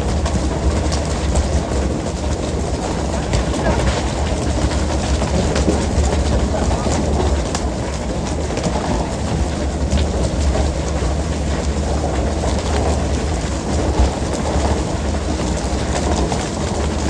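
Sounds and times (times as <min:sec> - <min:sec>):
boat engine rumbling: 0:00.0 - 0:17.0
water rushing along hull: 0:00.0 - 0:17.0.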